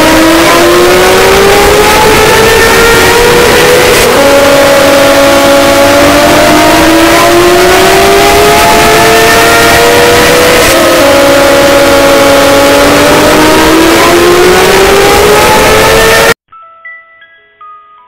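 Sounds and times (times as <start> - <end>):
distorted alarm sirens: 0.0 - 16.4
harsh noise: 0.0 - 16.4.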